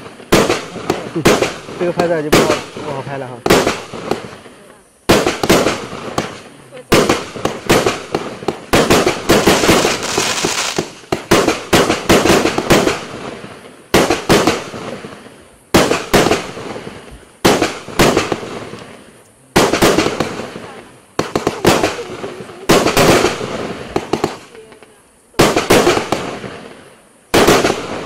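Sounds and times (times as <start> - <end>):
fireworks bangs with crackle: 0.0 - 28.0.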